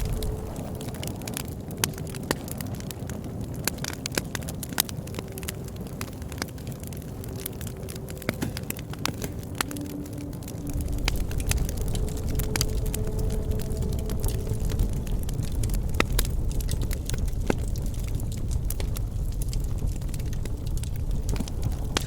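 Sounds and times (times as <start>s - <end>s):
burning wood popping: 0.0s - 22.0s
low rush of flame: 0.0s - 22.0s.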